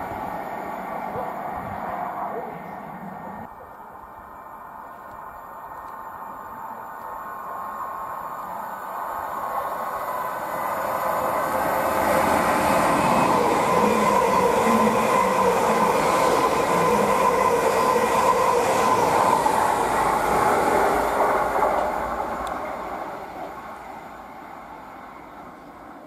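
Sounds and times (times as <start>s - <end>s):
steady train tone: 0.0s - 26.0s
train wheels running on rails: 0.0s - 26.0s.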